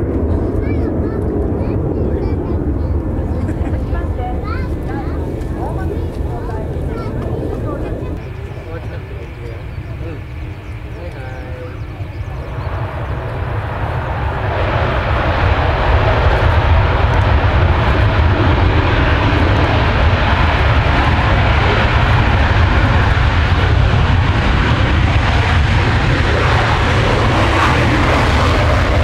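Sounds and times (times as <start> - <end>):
deep jet engine rumble: 0.0 - 29.0
jet engines roaring at take-off: 0.0 - 29.0.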